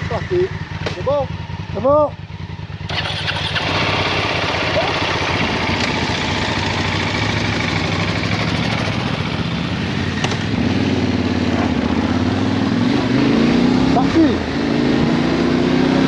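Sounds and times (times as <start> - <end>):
motorcycle engines idling: 0.0 - 13.3
motorcycle pulling away: 1.4 - 16.0.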